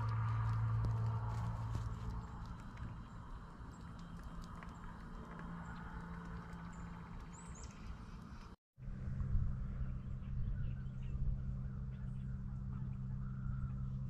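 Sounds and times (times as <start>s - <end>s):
low hum and rumble: 0.0s - 14.0s.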